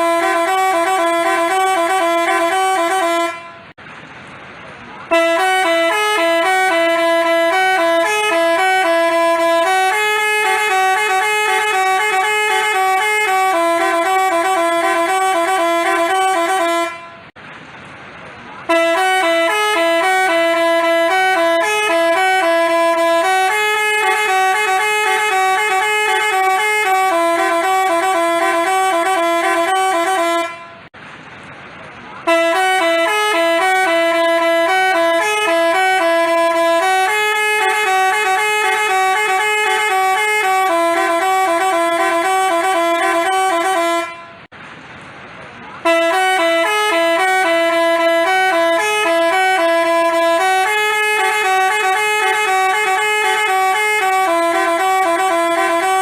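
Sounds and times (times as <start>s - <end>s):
multi-tone bus horn melody: 0.0s - 3.9s, 4.9s - 17.4s, 18.6s - 31.0s, 32.2s - 44.5s, 45.8s - 56.0s.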